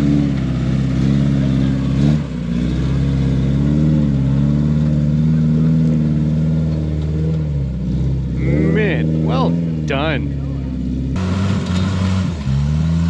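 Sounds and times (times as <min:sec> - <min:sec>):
buggy engine under throttle: 0:00.0 - 0:13.0.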